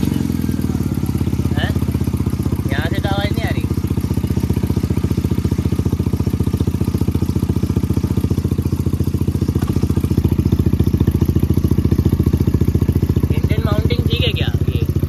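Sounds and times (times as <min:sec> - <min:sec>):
car engine idling: 0:00.0 - 0:15.0
rapid pulsing from exhaust: 0:00.0 - 0:15.0.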